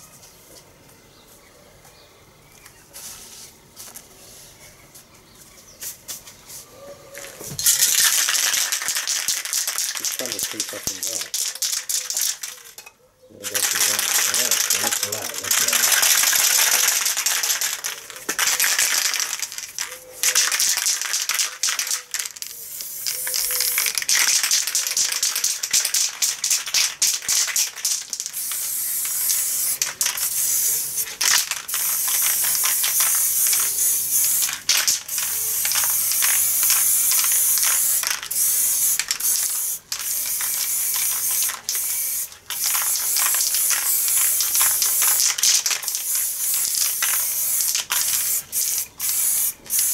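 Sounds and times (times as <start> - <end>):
spray can mixing ball rattle: 7.2 - 12.8, 13.4 - 49.9
spray paint can hissing: 7.2 - 12.8, 13.4 - 49.9.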